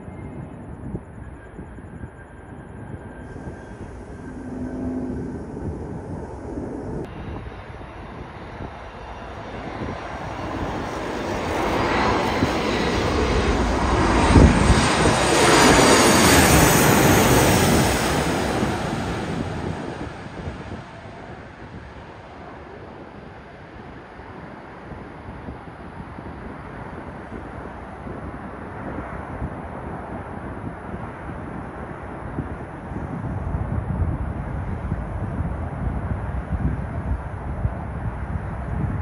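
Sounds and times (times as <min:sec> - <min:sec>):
distant jet noise: 0:00.0 - 0:33.0
airliner engine noise overhead: 0:00.0 - 0:39.0.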